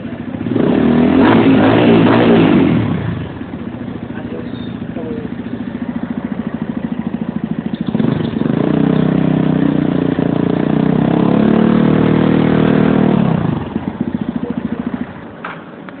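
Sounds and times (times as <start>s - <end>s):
motorcycle engine revving: 0.0s - 15.8s.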